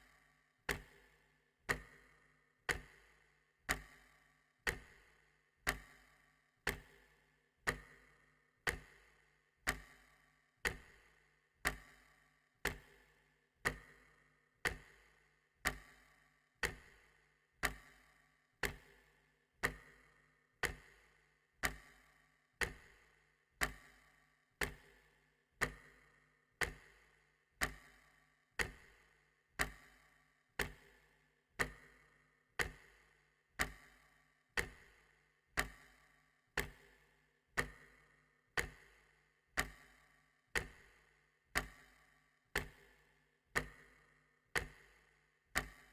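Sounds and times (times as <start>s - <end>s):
clock ticking: 0.7s - 14.0s, 14.6s - 45.9s.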